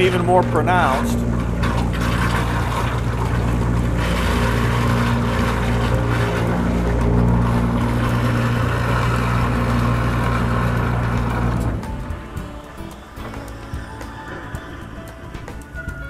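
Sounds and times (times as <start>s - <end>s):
pump low hum: 0.0s - 16.0s
pump rushing noise: 0.0s - 16.0s.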